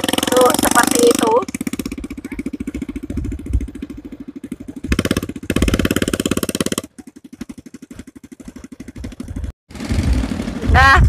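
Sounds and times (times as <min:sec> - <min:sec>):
small atv engine running: 0:00.0 - 0:11.0.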